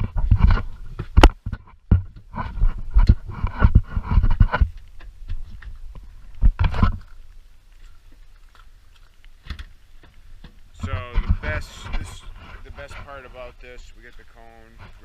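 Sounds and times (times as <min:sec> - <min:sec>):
knocks and rustling: 0:00.0 - 0:07.2, 0:07.8 - 0:15.0.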